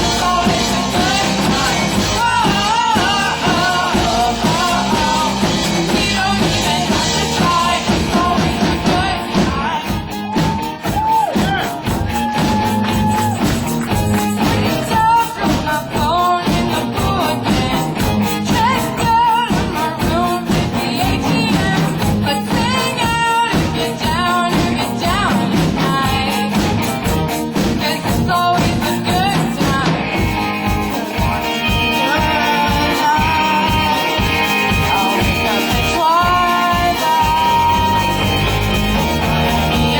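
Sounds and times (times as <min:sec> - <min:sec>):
rock and roll song with singing: 0:00.0 - 0:39.9
steady drum beat: 0:00.0 - 0:39.9.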